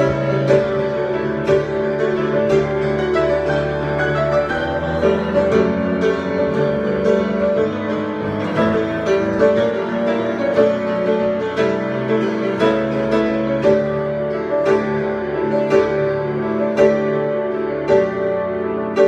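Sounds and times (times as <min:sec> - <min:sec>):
piano improvisation: 0:00.0 - 0:19.0.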